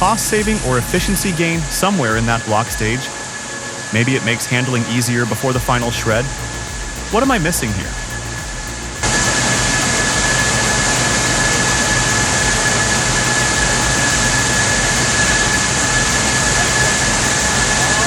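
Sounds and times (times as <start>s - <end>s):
heavy machinery running: 0.0s - 18.0s
high whine: 0.0s - 18.0s.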